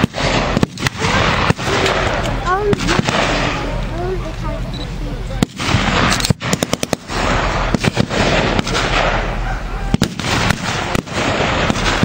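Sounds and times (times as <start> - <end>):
blank gunshots: 0.0 - 3.7, 5.4 - 12.0
steady noisy background: 0.0 - 12.0.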